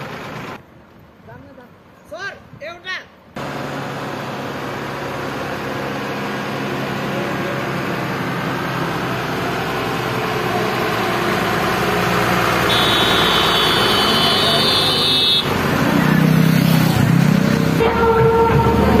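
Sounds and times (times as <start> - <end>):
diesel bus engine running: 0.0 - 0.6, 3.4 - 19.0.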